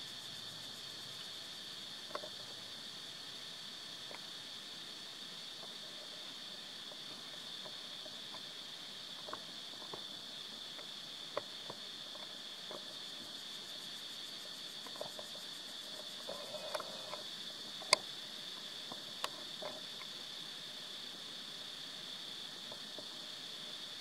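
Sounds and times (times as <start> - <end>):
high-pitched insect chorus: 0.0 - 24.0
faint clicks and ticks: 0.1 - 2.8, 4.0 - 4.4, 5.3 - 20.8, 22.4 - 24.0.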